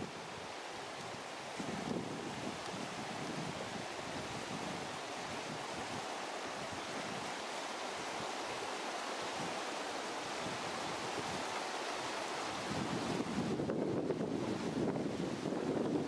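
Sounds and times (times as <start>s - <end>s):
river rushing over stones: 0.0s - 16.0s.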